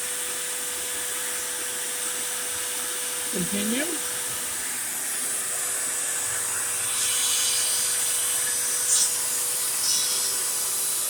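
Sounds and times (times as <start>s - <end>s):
router bit cutting wood: 0.0s - 11.0s
shop vacuum running: 0.0s - 11.0s.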